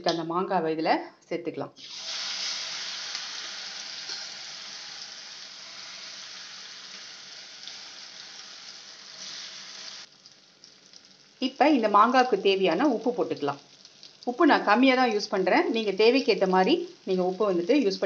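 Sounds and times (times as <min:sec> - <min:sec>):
mango sizzling in hot oil: 0:01.8 - 0:18.0.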